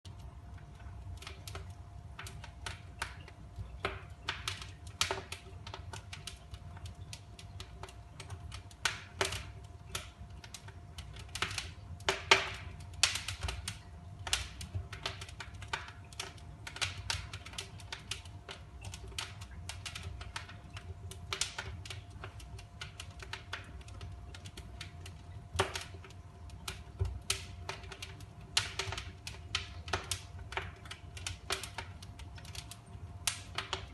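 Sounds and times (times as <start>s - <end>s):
fireplace fire crackling: 0.1s - 33.9s.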